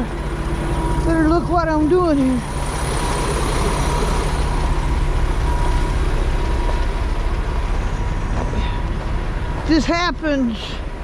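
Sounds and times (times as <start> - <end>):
diesel truck engine idling: 0.0 - 11.0
faint steady whine: 0.0 - 11.0.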